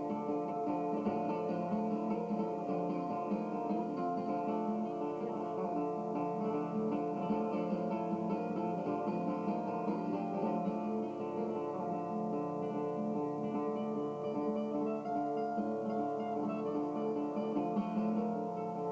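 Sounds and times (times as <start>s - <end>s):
acoustic guitar plucked notes: 0.0s - 18.9s.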